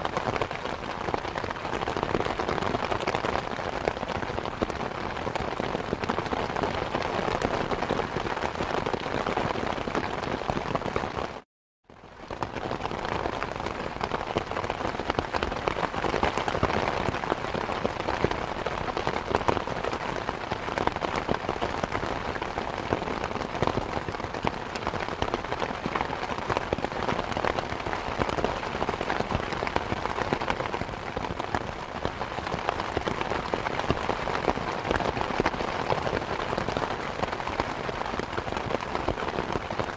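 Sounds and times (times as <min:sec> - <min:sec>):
steady rain falling: 0:00.0 - 0:11.4, 0:12.0 - 0:39.9.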